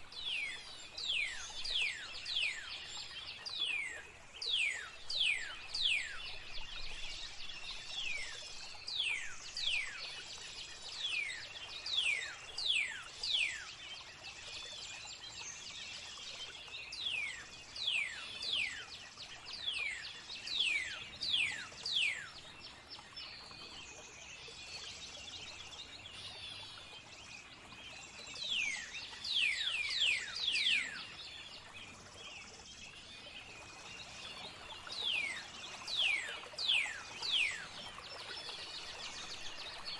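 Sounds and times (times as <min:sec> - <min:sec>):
flowing water hiss: 0:00.0 - 0:39.9.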